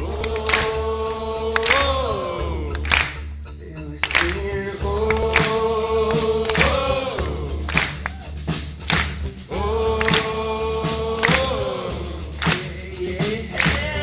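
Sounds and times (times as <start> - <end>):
steady beat of sharp hits: 0.0 - 3.3, 4.1 - 14.0
voices singing held notes: 0.0 - 14.0.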